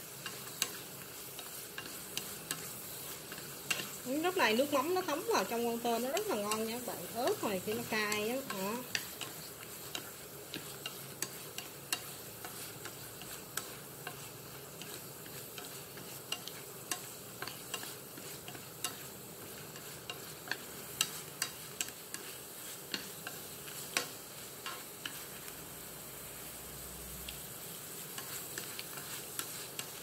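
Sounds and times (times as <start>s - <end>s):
shrimp sizzling in a pan: 0.0s - 30.0s.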